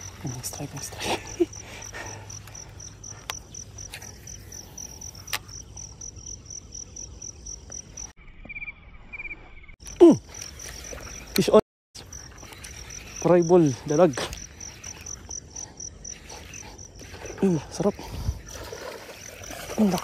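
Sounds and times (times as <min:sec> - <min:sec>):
insects chirping: 0:00.0 - 0:20.0
low insect trill: 0:00.0 - 0:20.0.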